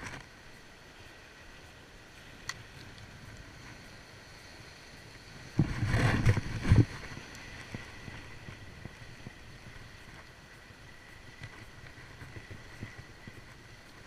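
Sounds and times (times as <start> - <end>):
sea against rocks: 0.0 - 14.0
wind: 0.0 - 14.0
wind and handling noise burst: 0.0 - 14.0.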